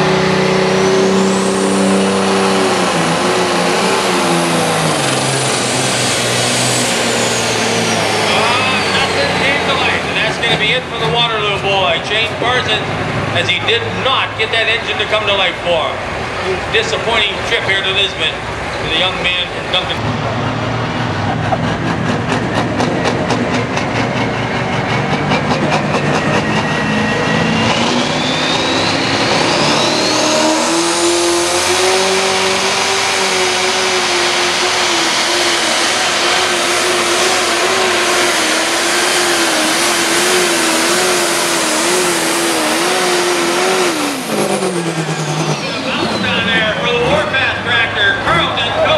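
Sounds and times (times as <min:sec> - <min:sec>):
turbo whine: 0:00.0 - 0:14.1, 0:18.4 - 0:47.7
diesel tractor engine pulling: 0:00.0 - 0:48.9.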